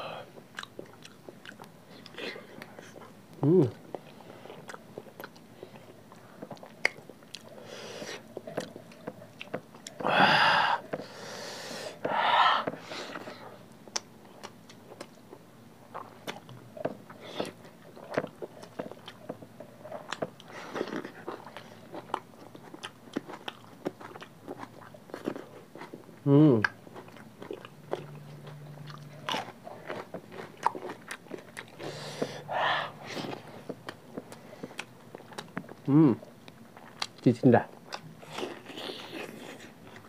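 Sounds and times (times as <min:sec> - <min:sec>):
chewing and wet mouth sounds: 0:00.2 - 0:10.0, 0:12.0 - 0:40.0.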